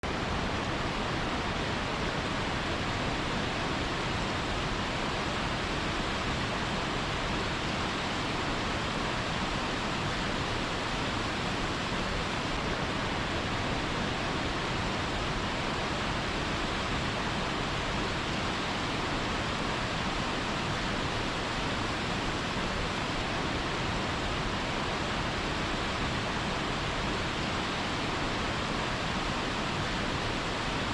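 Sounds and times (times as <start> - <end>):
fast-flowing water rushing: 0.0 - 30.9.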